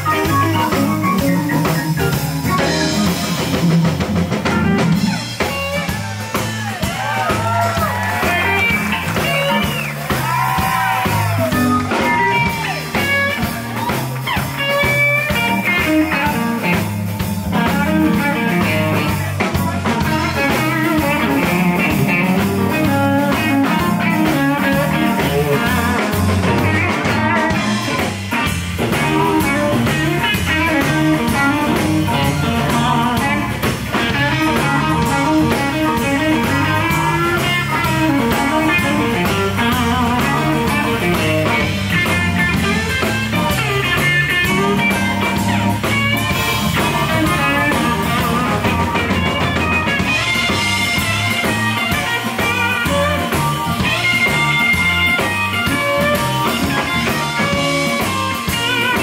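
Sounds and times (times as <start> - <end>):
electric guitar lead: 0.0 - 59.0
live blues band: 0.0 - 59.0.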